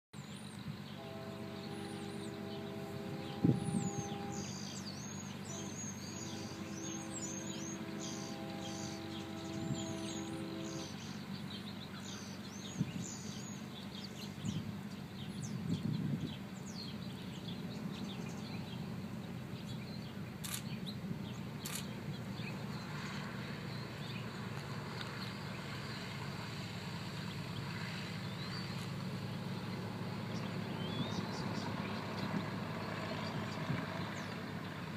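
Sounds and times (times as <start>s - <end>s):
piston aircraft engine droning: 0.2s - 34.9s
birds chirping: 0.3s - 26.1s, 27.3s - 34.9s.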